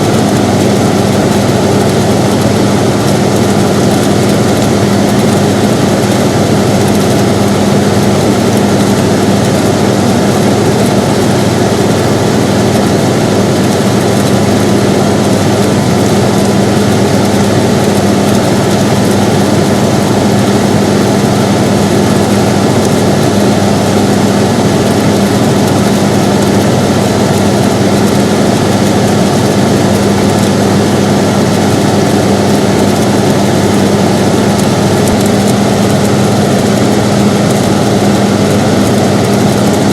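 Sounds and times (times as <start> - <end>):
air conditioner whooshing and humming: 0.0 - 39.9.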